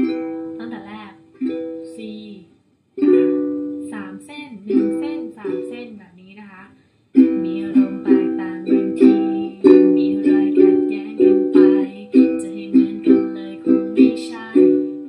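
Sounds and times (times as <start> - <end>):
ukulele strumming chords: 0.0 - 2.4, 3.0 - 6.0, 7.2 - 15.0.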